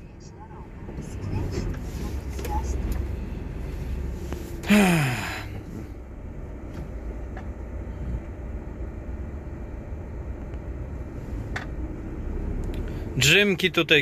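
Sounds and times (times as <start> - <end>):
lorry engine and road rumble: 0.0 - 14.0.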